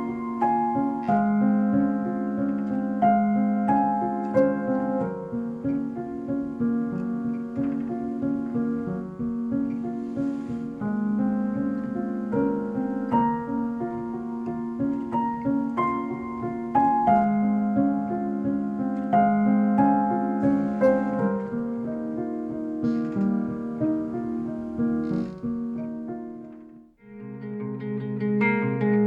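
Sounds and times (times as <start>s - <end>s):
piano music through speakers: 0.0s - 29.0s.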